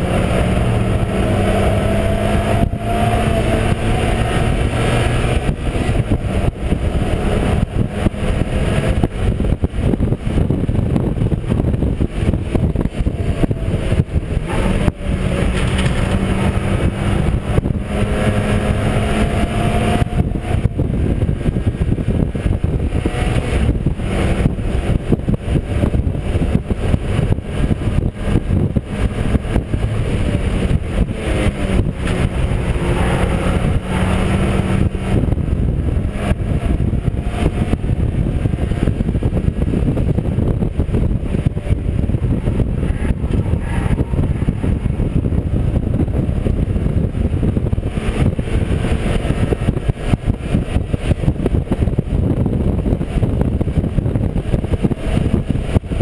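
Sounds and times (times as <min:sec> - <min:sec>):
race car engine running hard: 0:00.0 - 0:56.0
road and wind noise: 0:00.0 - 0:56.0.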